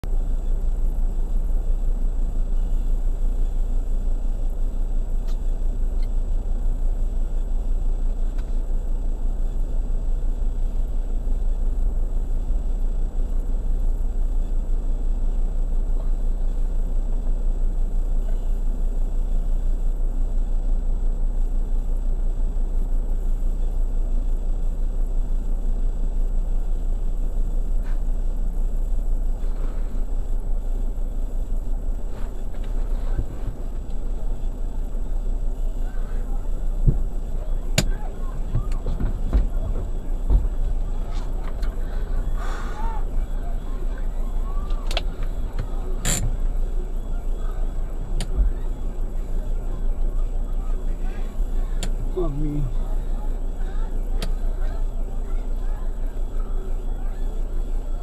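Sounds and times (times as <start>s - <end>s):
faint humming tones: 0.0s - 58.0s
steady low rumble: 0.0s - 58.0s.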